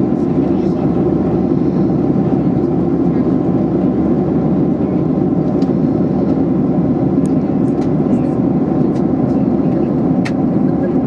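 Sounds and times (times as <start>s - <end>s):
jet engine cabin drone: 0.0s - 11.0s.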